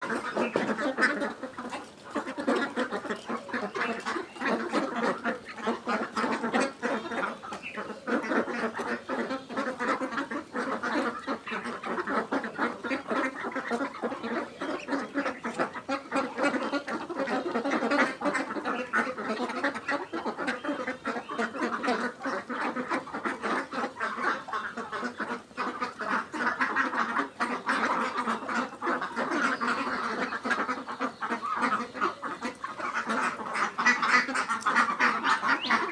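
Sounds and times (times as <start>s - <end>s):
ducks quacking: 0.0s - 35.9s.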